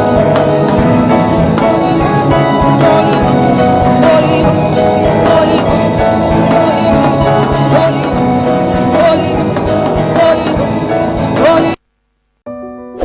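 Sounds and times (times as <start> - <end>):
person singing gospel: 0.0 - 11.8
steady drum beat: 0.0 - 11.8
sustained instrumental chords: 0.0 - 11.8.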